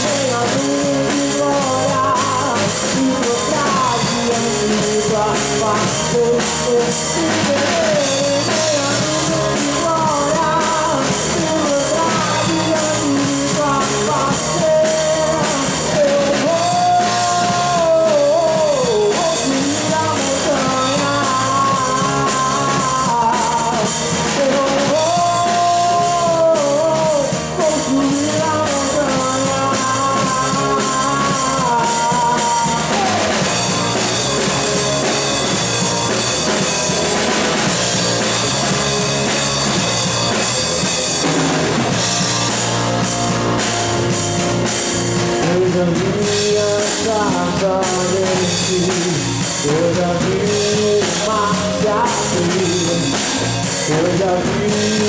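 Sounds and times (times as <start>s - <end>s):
man singing into a microphone: 0.0s - 43.1s, 45.2s - 55.0s
drum kit: 0.0s - 55.0s
electric bass: 0.0s - 55.0s.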